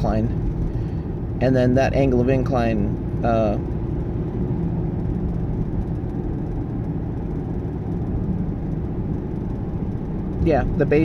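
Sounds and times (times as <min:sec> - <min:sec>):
car driving low rumble: 0:00.0 - 0:11.0.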